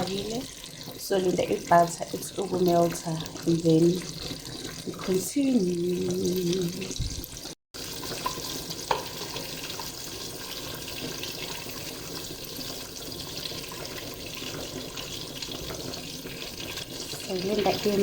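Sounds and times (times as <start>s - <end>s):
butter sizzling in a pan: 0.0s - 18.0s.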